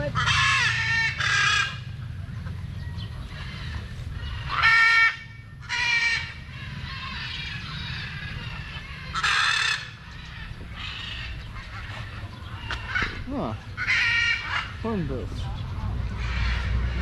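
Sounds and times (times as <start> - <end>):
hornbill calling: 0.0 - 17.0.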